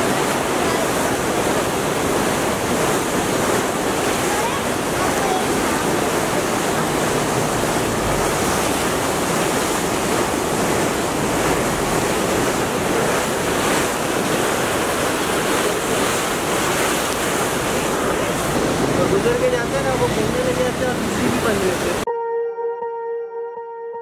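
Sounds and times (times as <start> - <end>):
wind on microphone: 0.0 - 20.3
water rushing in canal: 0.0 - 22.1.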